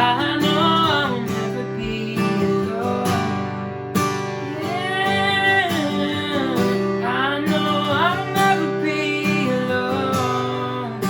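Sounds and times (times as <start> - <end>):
wordless singing: 0.0 - 3.5, 4.4 - 11.0
strummed acoustic guitar: 0.0 - 11.0.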